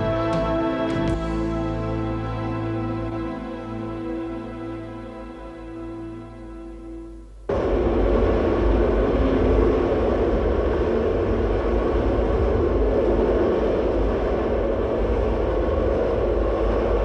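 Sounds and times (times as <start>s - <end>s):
metro train rumbling in tunnel: 0.0s - 17.0s.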